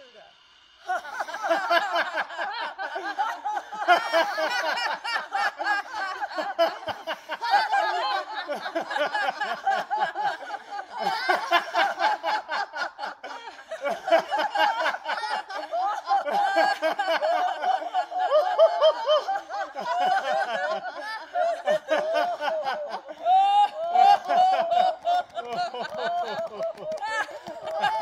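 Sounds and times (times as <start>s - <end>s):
group of people laughing: 0.0s - 28.0s.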